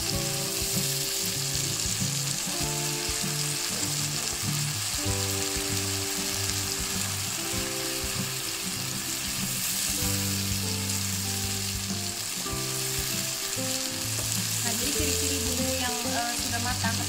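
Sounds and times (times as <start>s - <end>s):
spice paste sizzling in oil: 0.0s - 17.0s.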